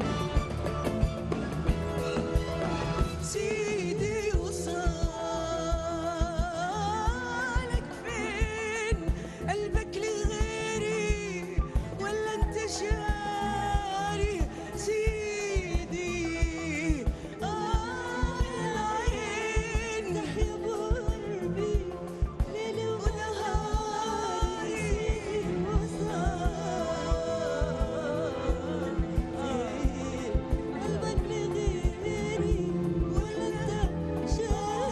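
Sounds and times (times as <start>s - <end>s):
orchestra playing: 0.0s - 34.9s
women singing a duet: 3.2s - 34.9s.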